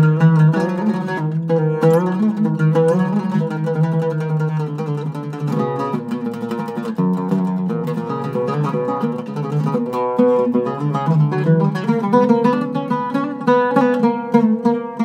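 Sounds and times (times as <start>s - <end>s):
oud melody plucked: 0.0s - 15.0s.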